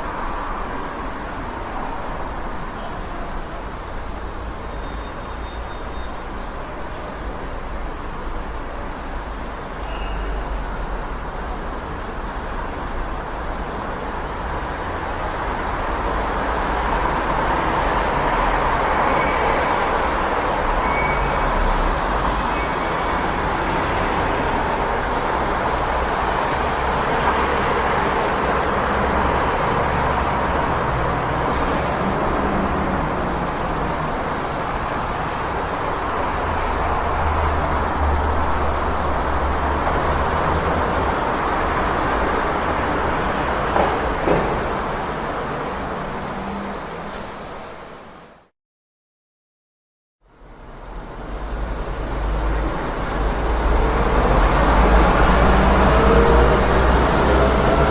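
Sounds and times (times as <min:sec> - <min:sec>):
city street traffic: 0:00.0 - 0:48.5, 0:50.2 - 0:57.9.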